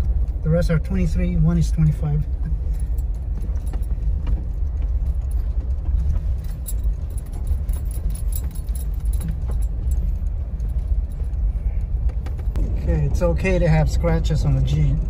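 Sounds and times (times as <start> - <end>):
light rattles and clicks: 0.0 - 13.3
engine and tyres rumbling: 0.0 - 15.0.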